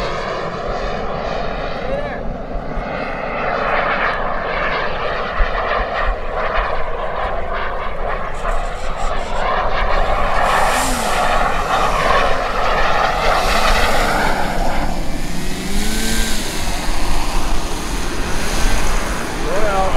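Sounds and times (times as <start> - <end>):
model jet turbine rushing: 0.0 - 19.9.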